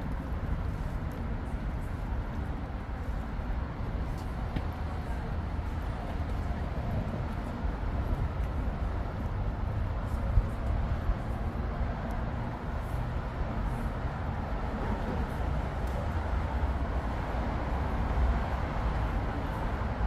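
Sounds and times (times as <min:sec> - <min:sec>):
rumble of passing cars: 0:00.0 - 0:20.0.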